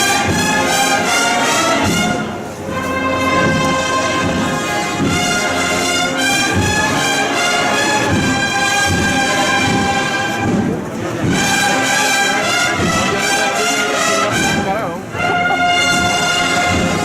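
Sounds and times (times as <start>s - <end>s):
brass band playing slow march: 0.0s - 17.0s.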